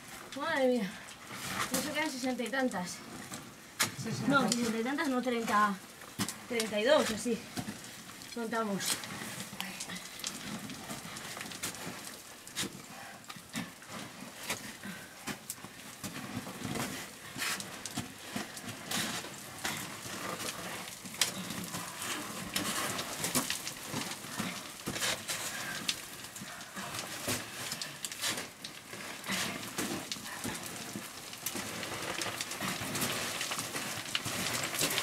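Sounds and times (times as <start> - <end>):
boots and gear scraping on rock: 3.1 - 35.0.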